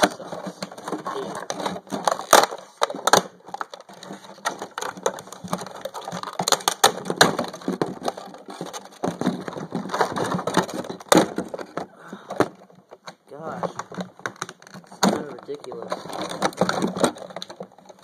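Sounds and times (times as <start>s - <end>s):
packaging crackling and tearing: 0.0s - 18.0s.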